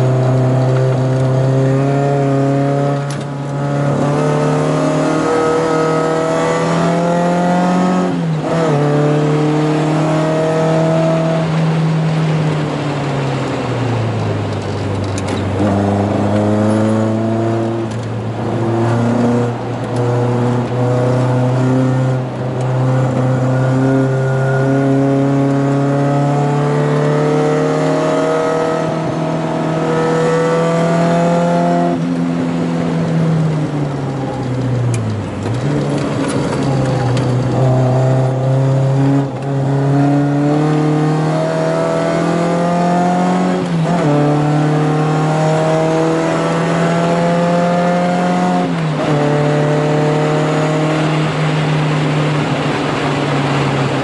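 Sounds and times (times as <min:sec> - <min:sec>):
car engine pulling hard: 0:00.0 - 0:54.0.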